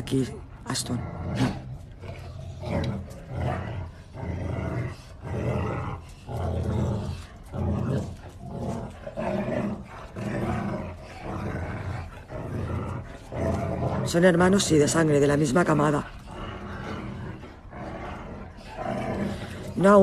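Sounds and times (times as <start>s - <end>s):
dogs growling in play: 0.0s - 20.0s.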